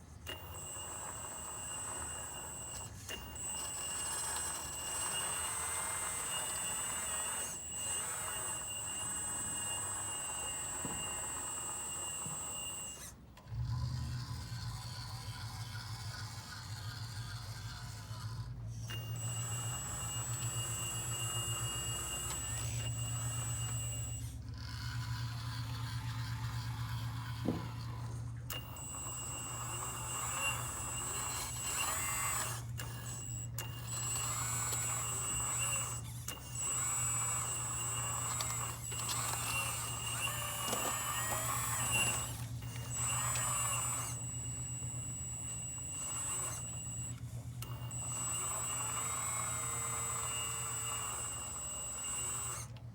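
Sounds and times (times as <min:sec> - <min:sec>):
excavator low hum: 0:00.0 - 0:52.9.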